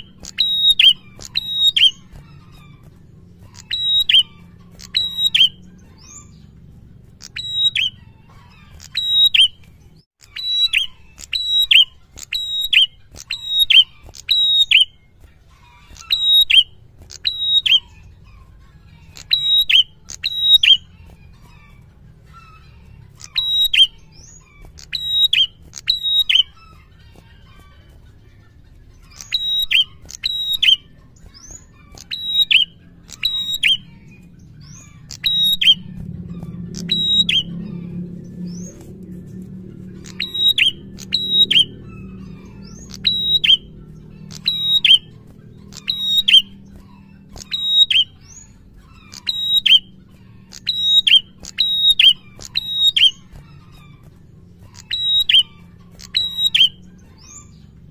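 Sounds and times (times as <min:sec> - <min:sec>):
bird singing high whistled notes: 0:00.0 - 0:02.8, 0:03.5 - 0:06.6, 0:07.2 - 0:15.0, 0:15.8 - 0:18.2, 0:19.1 - 0:21.6, 0:22.3 - 0:26.8, 0:29.0 - 0:54.0, 0:54.7 - 0:57.8.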